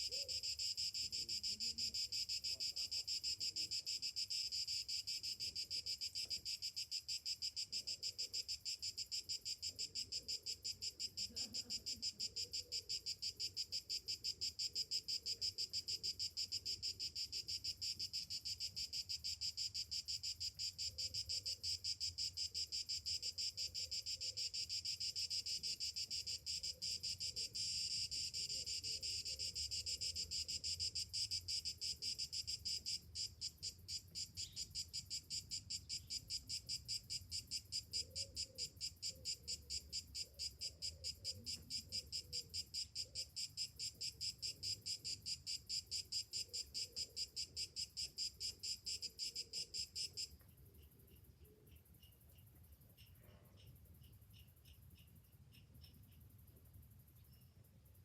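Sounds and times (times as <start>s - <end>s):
cicadas buzzing: 0.0s - 57.4s.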